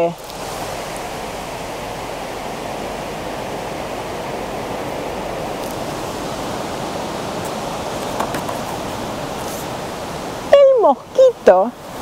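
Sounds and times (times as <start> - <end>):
steady rushing noise: 0.0 - 10.6.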